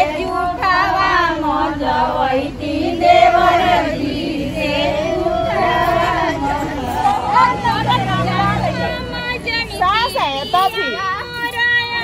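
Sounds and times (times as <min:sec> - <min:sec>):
women singing in chorus: 0:00.0 - 0:12.0.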